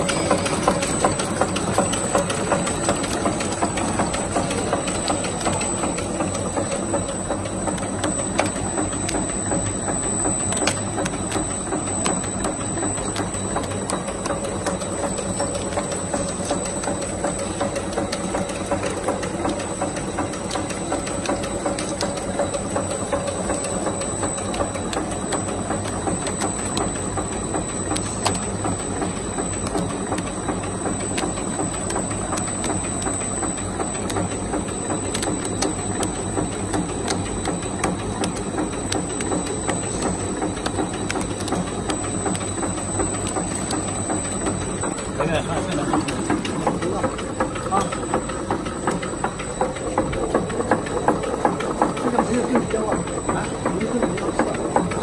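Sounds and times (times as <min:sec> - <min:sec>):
wrapping machine rapid clicks: 0:00.0 - 0:55.0.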